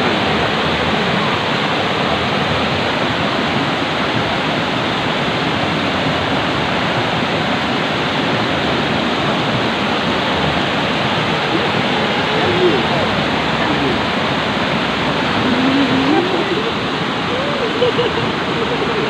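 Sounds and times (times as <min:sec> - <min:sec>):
water rushing over rocks: 0:00.0 - 0:19.0.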